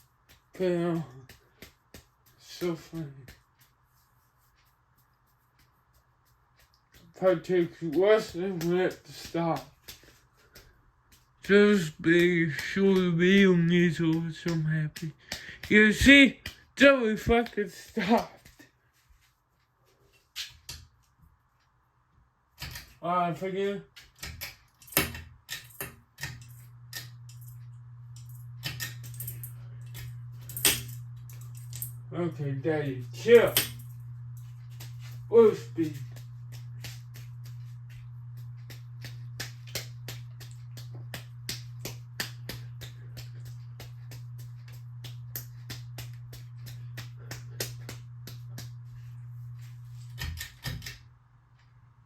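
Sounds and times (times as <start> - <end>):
ceiling fan motor humming: 0.0 - 18.6, 24.8 - 52.0.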